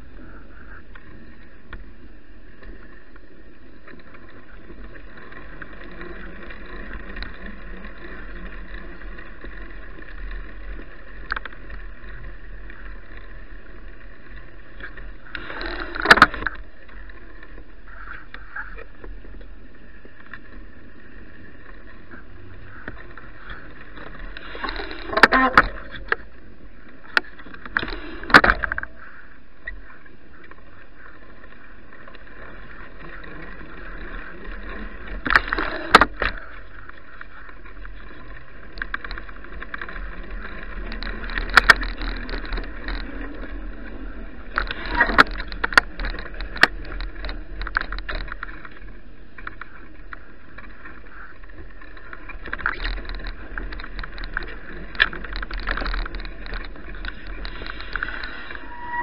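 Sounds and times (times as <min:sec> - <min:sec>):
bicycle riding noise: 0:00.0 - 0:59.0
bike knocks and rattles: 0:03.9 - 0:20.5, 0:21.8 - 0:26.3, 0:31.0 - 0:58.5.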